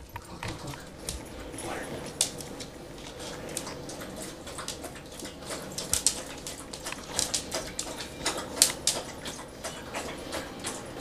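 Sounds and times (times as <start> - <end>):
dog lapping water: 0.0 - 11.0.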